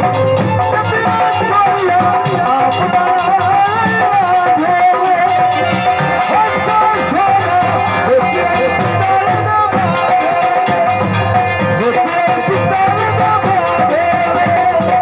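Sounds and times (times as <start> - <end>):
dhol drum beat: 0.0 - 15.0
man singing ornamented melody: 0.6 - 15.0.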